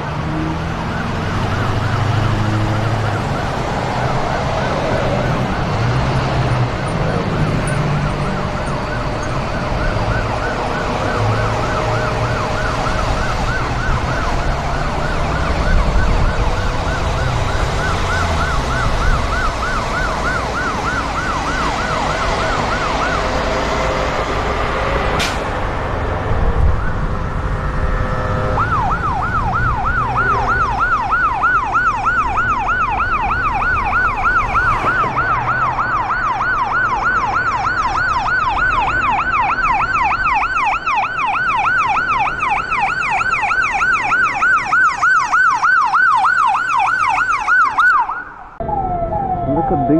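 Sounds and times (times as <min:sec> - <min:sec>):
ambulance siren yelping: 0:00.0 - 0:25.2, 0:26.7 - 0:49.9
low vehicle rumble: 0:00.0 - 0:49.9.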